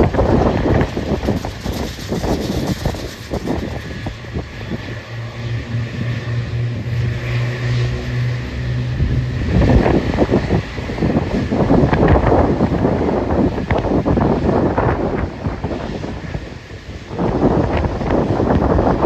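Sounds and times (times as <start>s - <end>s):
low aircraft engine hum: 0.0s - 19.0s
wind buffeting microphone: 0.0s - 19.0s.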